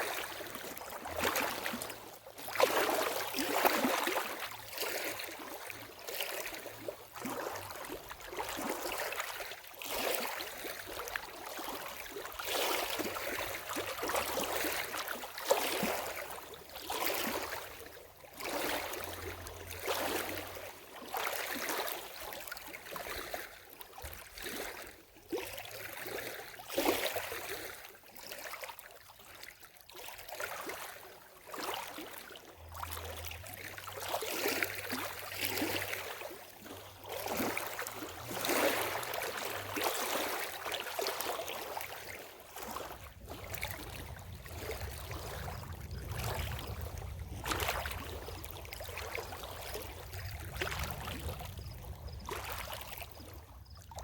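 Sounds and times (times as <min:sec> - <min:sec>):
waves lapping at water's edge: 0:00.0 - 0:54.0.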